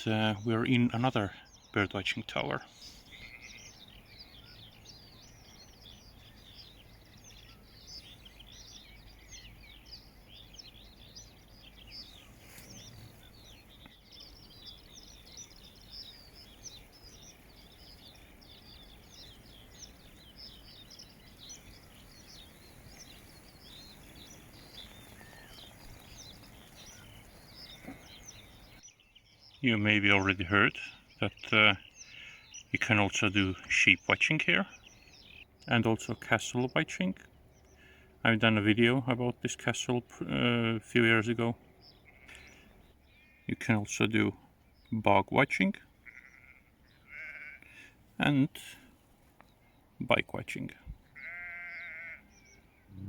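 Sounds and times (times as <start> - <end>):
many birds chirping: 0.0 - 53.0.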